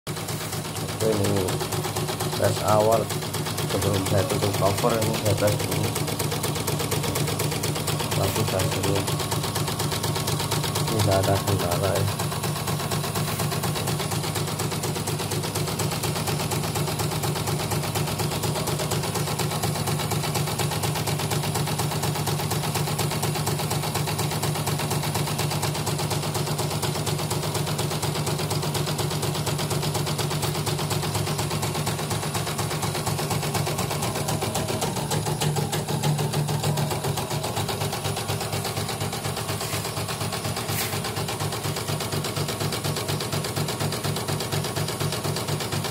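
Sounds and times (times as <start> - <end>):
embroidery machine needle stitching: 0.1 - 45.9.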